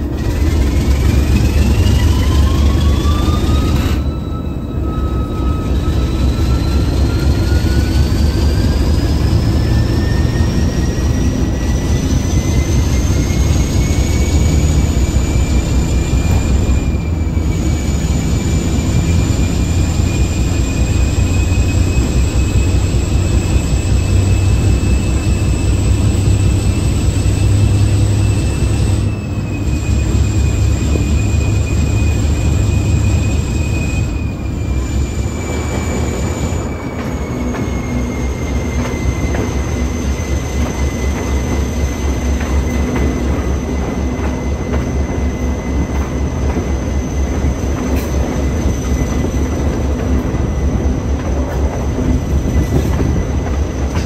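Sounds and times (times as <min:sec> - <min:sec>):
locomotive engine rumble: 0:00.0 - 0:54.0.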